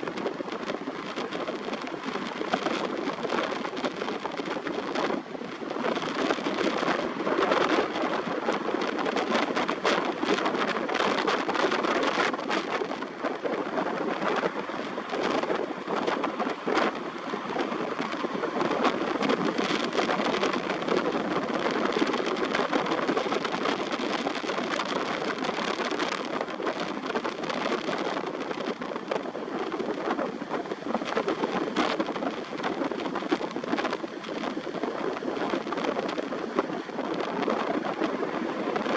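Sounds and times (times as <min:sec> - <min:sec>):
strong wind roaring: 0:00.0 - 0:38.9
wind buffeting microphone: 0:00.0 - 0:38.9.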